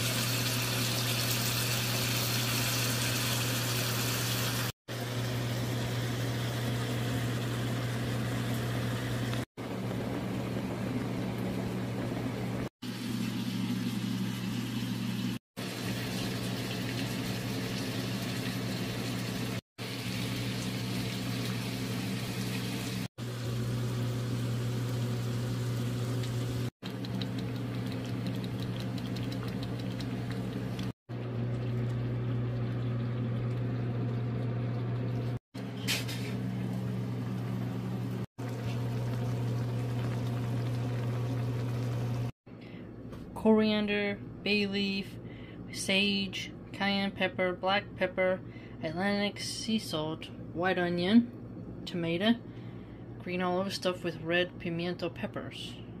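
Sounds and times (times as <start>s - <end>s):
low kitchen hum: 0.0s - 56.0s.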